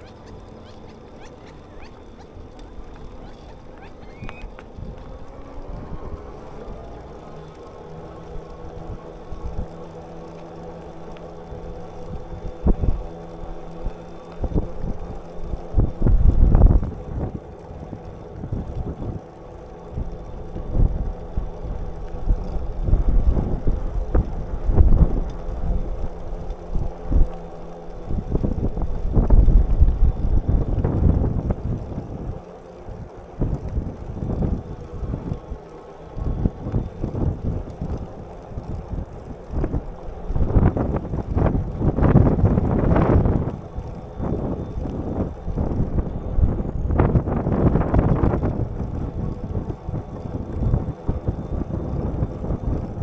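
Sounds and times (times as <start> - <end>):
wind buffeting microphone: 0.0 - 7.2, 10.8 - 53.0
faint steady hum: 0.0 - 53.0.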